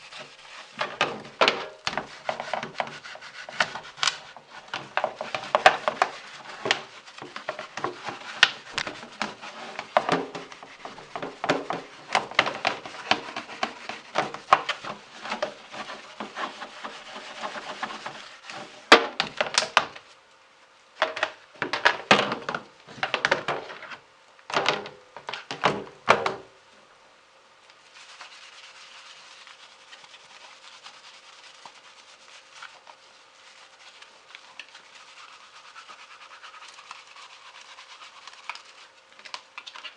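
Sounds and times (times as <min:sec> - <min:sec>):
brush scrubbing fan blades: 0:00.0 - 0:24.0, 0:27.6 - 0:39.9
faint steady hiss: 0:00.0 - 0:39.9.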